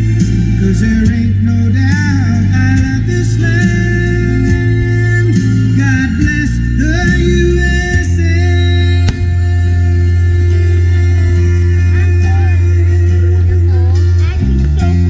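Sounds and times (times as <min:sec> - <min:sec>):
song with singing: 0:00.0 - 0:15.0.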